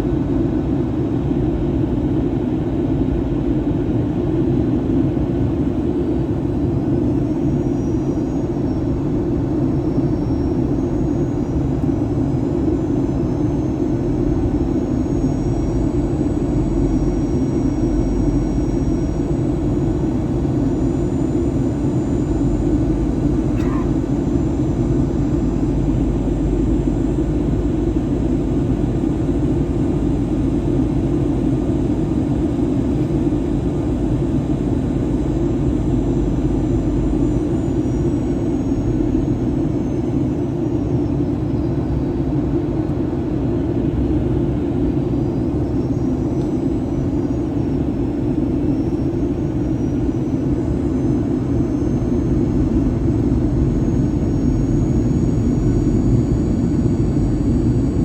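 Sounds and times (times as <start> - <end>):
aircraft cabin engine rumble: 0.0 - 58.0
high engine whine: 0.0 - 58.0.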